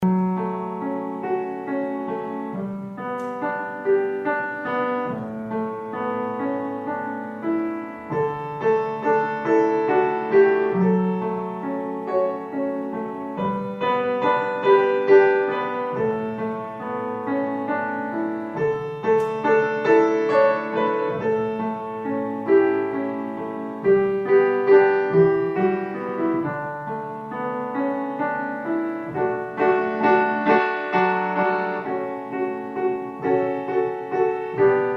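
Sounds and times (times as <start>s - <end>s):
ambient piano music: 0.0s - 34.9s.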